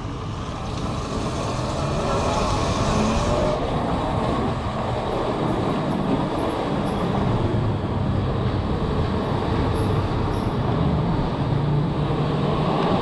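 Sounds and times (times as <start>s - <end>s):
road and riding noise: 0.0s - 13.0s.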